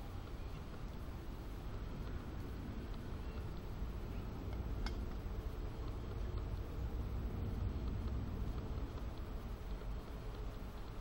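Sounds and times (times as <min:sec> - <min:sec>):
low rumble of wind on microphone: 0:00.0 - 0:11.0
wood fire crackling: 0:00.0 - 0:11.0.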